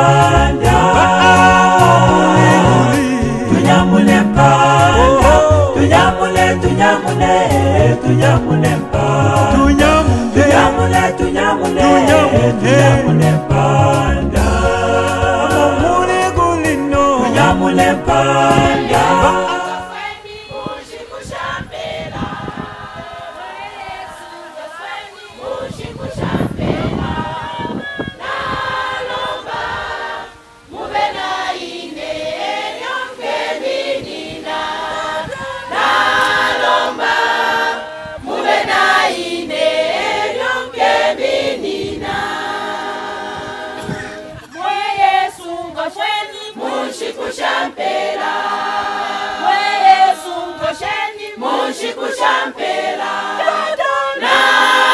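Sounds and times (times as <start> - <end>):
choir singing a cappella: 0.0 - 54.9.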